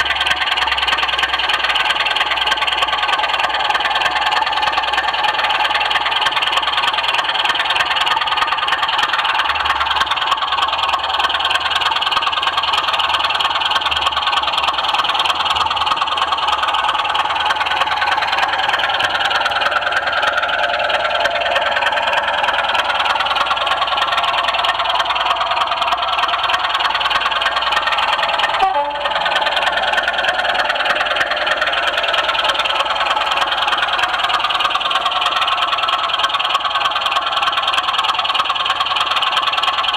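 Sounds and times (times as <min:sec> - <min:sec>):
model train whirring and rattling: 0:00.0 - 0:39.9.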